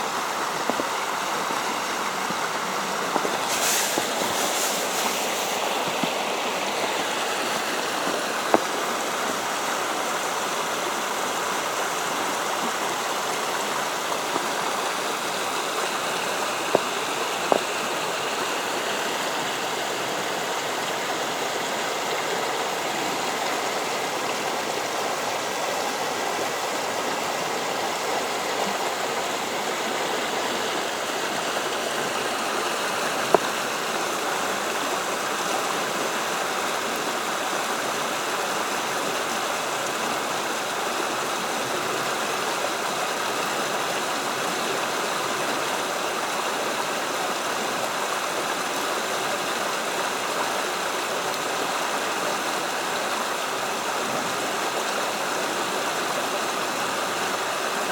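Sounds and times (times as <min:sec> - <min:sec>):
creek water flowing: 0:00.0 - 0:57.9.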